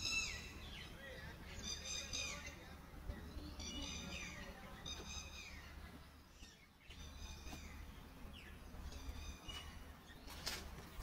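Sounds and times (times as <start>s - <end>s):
bird calling: 0.0s - 11.0s.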